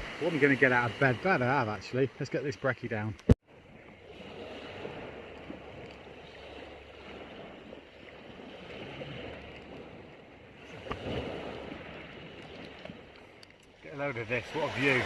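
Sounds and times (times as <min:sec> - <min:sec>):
sea waves washing onto beach: 0:00.0 - 0:02.8, 0:03.6 - 0:15.0.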